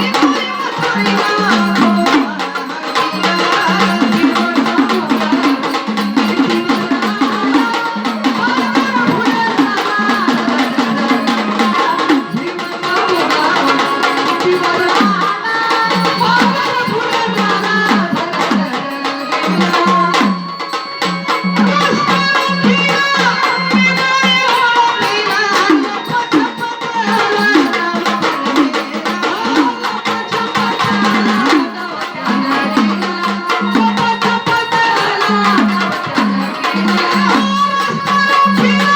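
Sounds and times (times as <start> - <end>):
drums beating a steady rhythm: 0.0 - 38.9.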